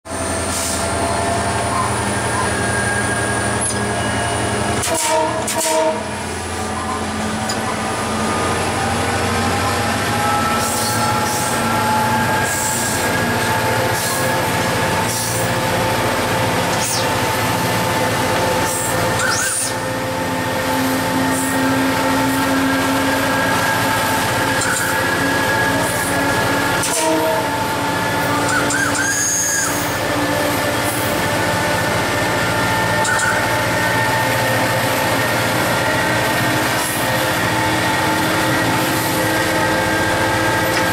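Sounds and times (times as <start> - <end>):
diesel locomotive engine: 0.0 - 40.9
wheel and rail noise: 0.1 - 40.9.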